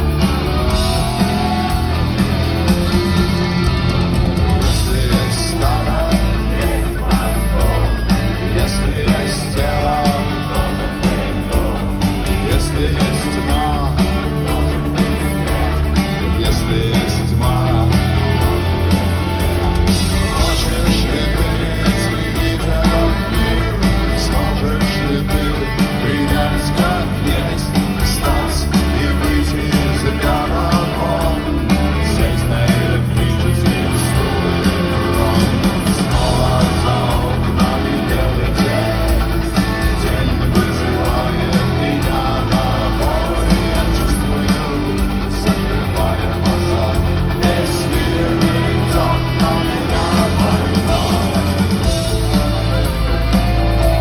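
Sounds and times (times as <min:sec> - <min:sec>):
drums: 0:00.0 - 0:54.0
electric guitars: 0:00.0 - 0:54.0
person singing: 0:00.0 - 0:54.0.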